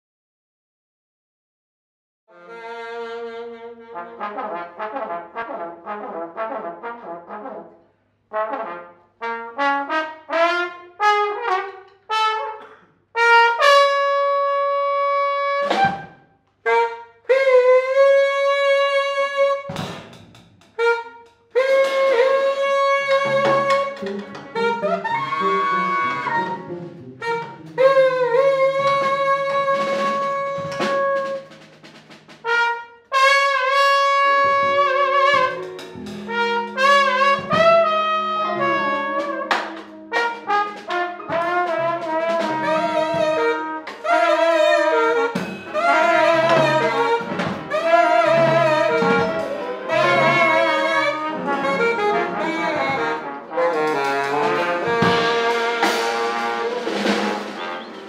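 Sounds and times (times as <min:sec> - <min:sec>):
jazz trombone and saxophone: 0:02.3 - 0:58.0.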